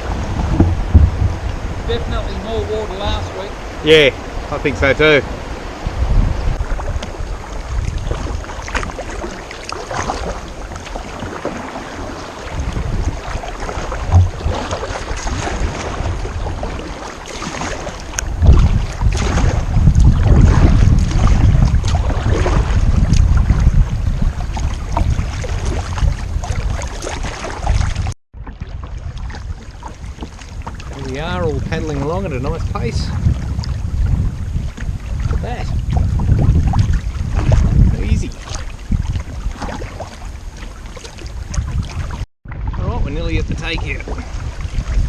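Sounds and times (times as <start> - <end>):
paddles splashing in water: 0.0 - 45.0
wind buffeting microphone: 0.0 - 45.0.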